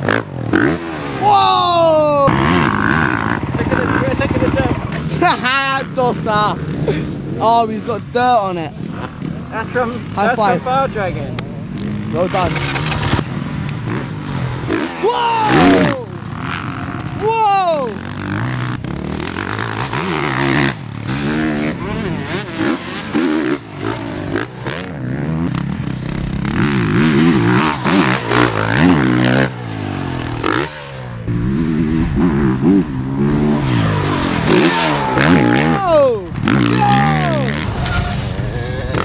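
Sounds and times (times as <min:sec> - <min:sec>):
motocross bike engines revving: 0:00.0 - 0:39.0.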